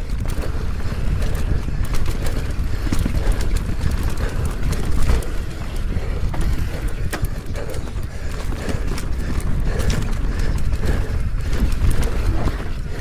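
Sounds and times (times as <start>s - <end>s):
bike rattling: 0.0s - 13.0s
wind rumble on microphone: 0.0s - 13.0s.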